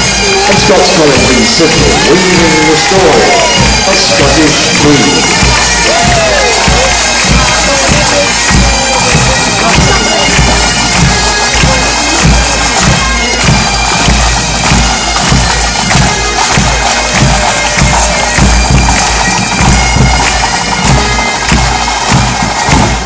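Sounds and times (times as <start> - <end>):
bagpipes with drones: 0.0 - 23.0
snare and bass drums marching beat: 0.0 - 23.0.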